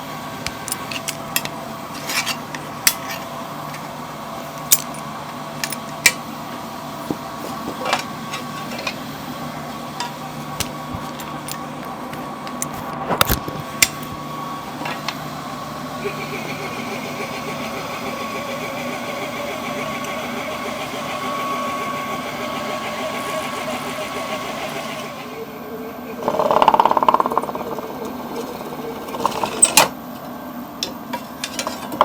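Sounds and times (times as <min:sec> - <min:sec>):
milling machine hum and whine: 0:00.0 - 0:32.0.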